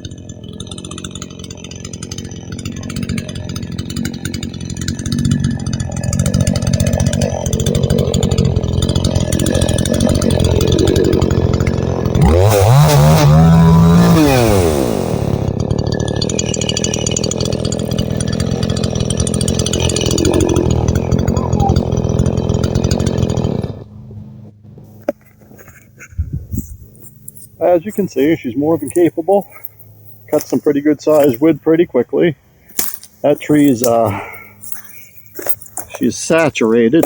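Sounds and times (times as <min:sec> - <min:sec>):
chainsaw cutting log: 0:00.0 - 0:37.0.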